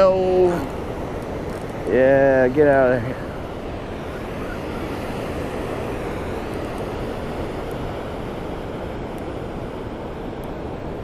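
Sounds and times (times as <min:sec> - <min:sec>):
river water rushing over a weir: 0:00.0 - 0:11.0.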